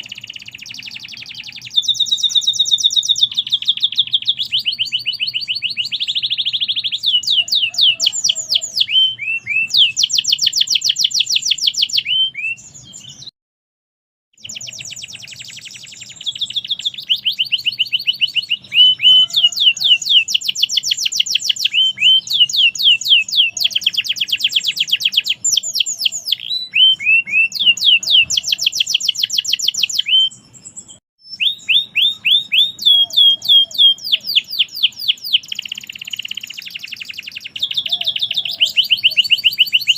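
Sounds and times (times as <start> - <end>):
canary singing trills: 0.0 - 13.3, 14.4 - 39.9.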